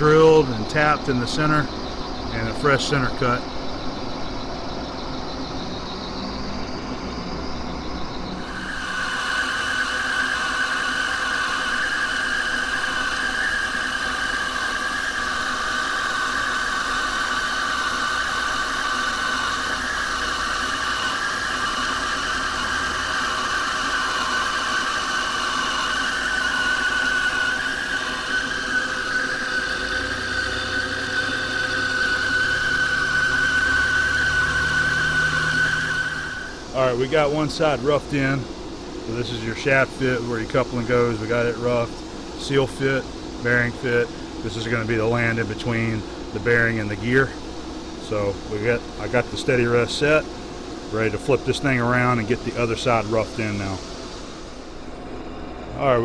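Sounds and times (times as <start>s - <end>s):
high-pitched cutting whine: 0.0s - 56.0s
lathe humming: 0.0s - 56.0s.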